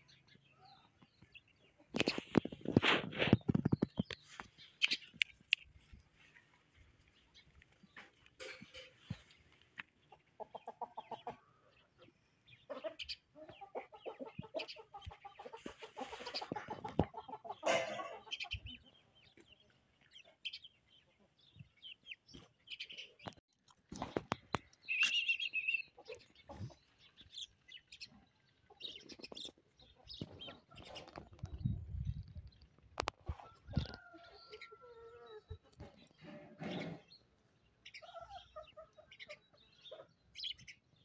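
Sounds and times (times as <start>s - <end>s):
chickens clucking: 0.1s - 41.0s.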